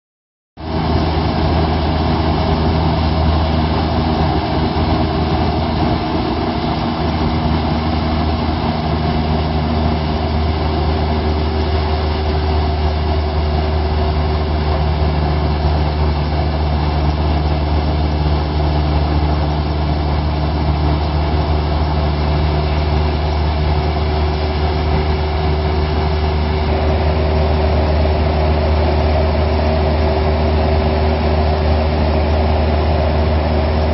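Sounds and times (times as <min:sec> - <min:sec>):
airplane engine drone: 0:00.6 - 0:33.9.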